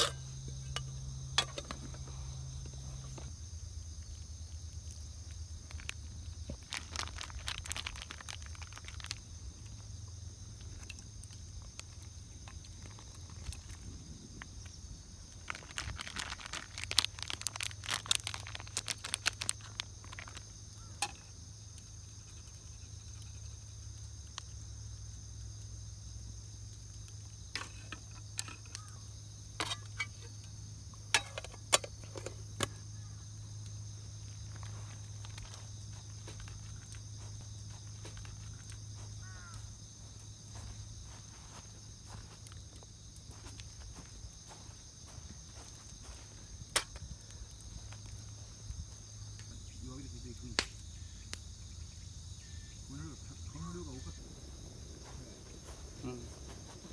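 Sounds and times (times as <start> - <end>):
insects droning: 0.0 - 56.9.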